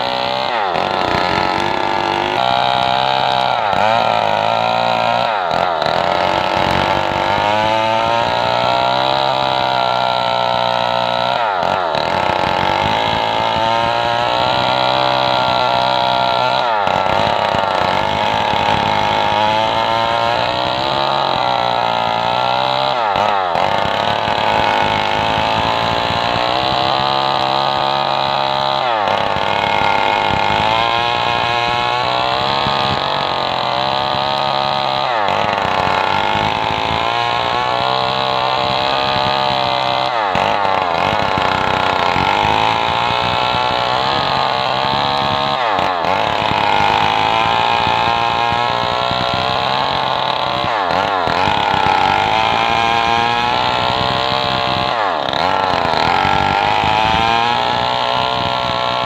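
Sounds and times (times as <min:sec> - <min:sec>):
chainsaw cutting a log: 0:00.0 - 0:59.0.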